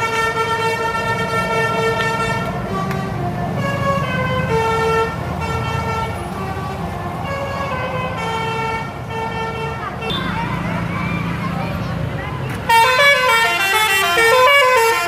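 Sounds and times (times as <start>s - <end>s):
musical bus horn tune: 0.0s - 10.6s, 12.7s - 15.0s
low engine rumble: 0.0s - 15.0s.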